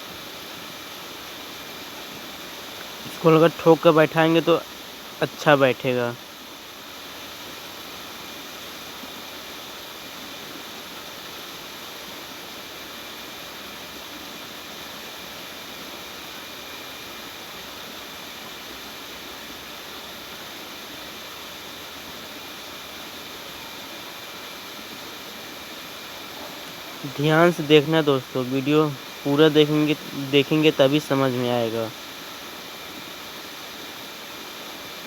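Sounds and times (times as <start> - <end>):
background hiss: 0.0 - 35.0.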